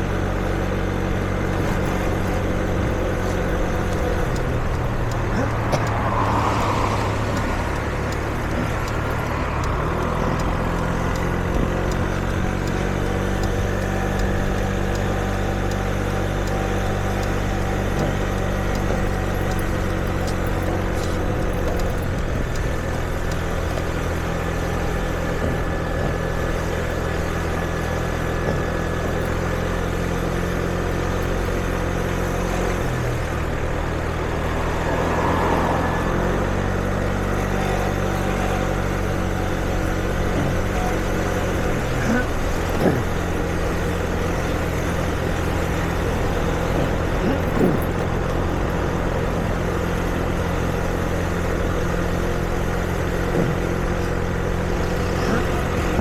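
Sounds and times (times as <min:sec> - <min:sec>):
street noise: 0:00.0 - 0:56.0
vehicle engines idling: 0:00.0 - 0:56.0.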